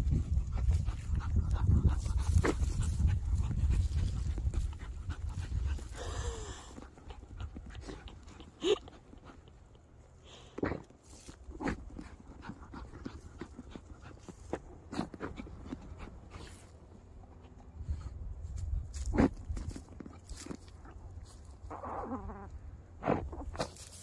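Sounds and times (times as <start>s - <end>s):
dogs panting: 0.0s - 21.6s
dogs digging in dry dirt: 0.0s - 24.0s.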